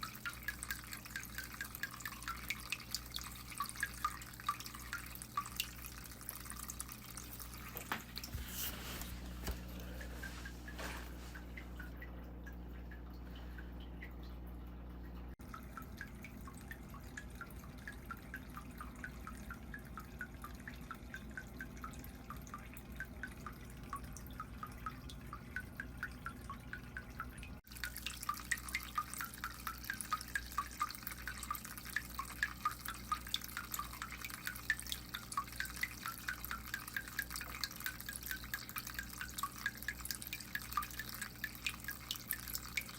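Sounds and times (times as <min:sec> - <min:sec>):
water dripping plinks: 0:00.0 - 0:08.3, 0:09.4 - 0:42.9
low steady hum: 0:00.0 - 0:42.9.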